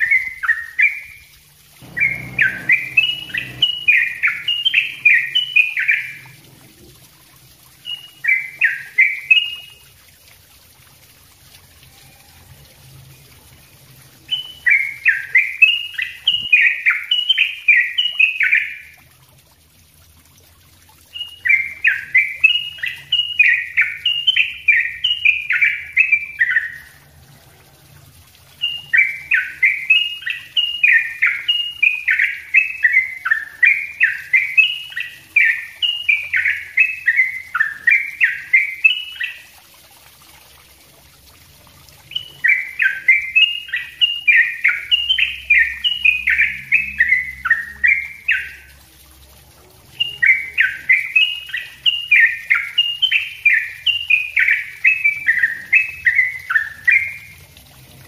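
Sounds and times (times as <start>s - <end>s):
bulbul singing: 0.0s - 9.9s, 13.2s - 19.0s, 21.1s - 27.0s, 28.5s - 39.6s, 42.0s - 48.8s, 49.9s - 57.4s.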